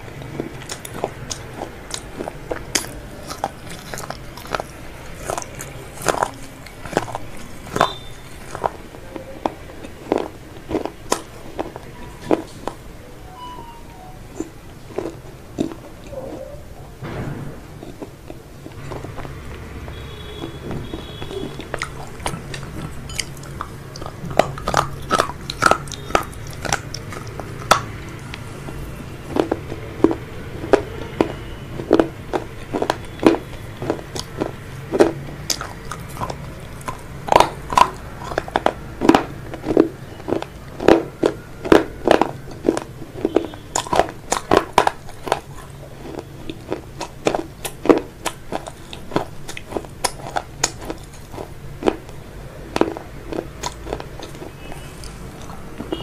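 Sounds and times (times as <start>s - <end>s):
crunchy chewing of fried chicken: 0.0s - 13.0s, 13.9s - 56.0s.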